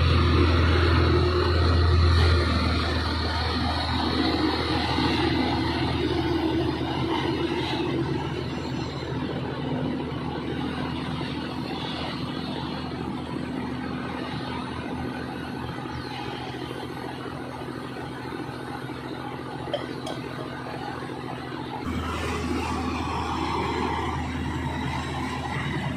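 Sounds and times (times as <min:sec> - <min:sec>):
diesel train engine running: 0:00.0 - 0:25.9.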